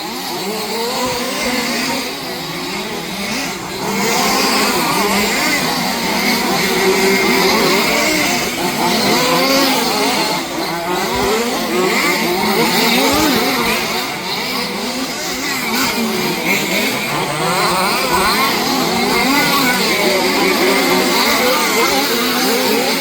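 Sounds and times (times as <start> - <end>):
small petrol engines revving: 0.0 - 23.0.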